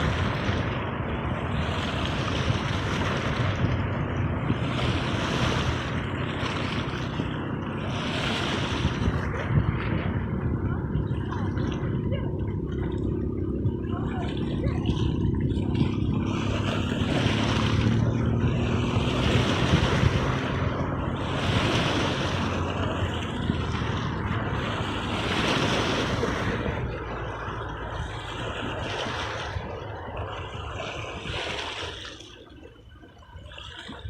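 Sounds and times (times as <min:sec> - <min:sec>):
sea waves washing on shore: 0:00.0 - 0:34.0
wind rumble on microphone: 0:00.0 - 0:34.0.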